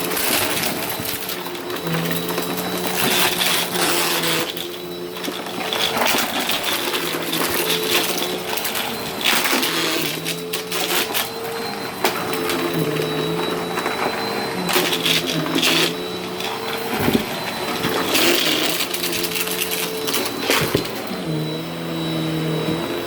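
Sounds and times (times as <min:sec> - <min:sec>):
vacuum cleaner motor hum: 0:00.0 - 0:23.0.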